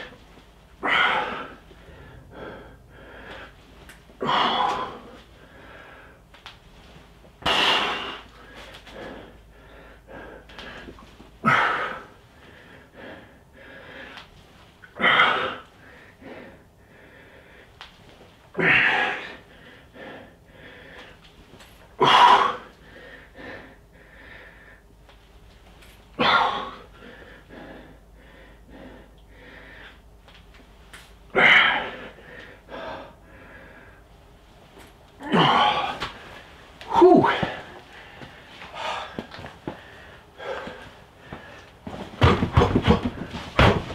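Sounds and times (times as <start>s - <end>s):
man breathing hard: 0.0s - 6.3s, 7.4s - 17.8s, 18.5s - 21.3s, 22.0s - 25.0s, 26.2s - 30.2s, 31.3s - 34.3s, 35.2s - 43.9s.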